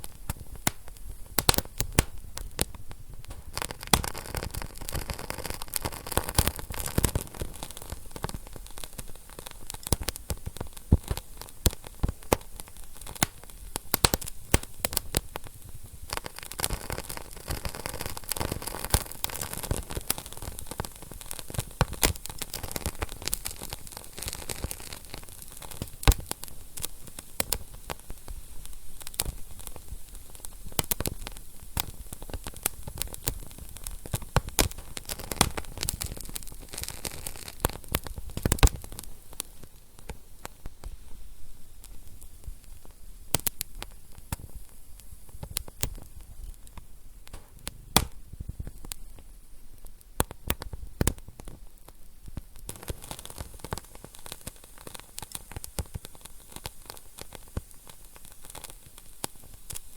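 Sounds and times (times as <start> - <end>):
soft hiss of burning: 0.0 - 59.9
wood fire crackling: 0.0 - 59.9.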